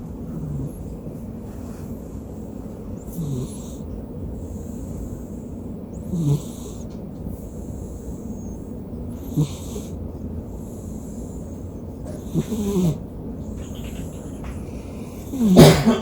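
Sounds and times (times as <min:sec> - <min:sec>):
cat snoring: 0:00.2 - 0:00.9, 0:02.4 - 0:15.6.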